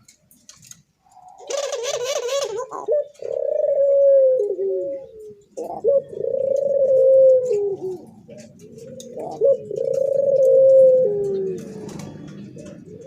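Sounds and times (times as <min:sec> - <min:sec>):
dove cooing: 0:01.0 - 0:13.0.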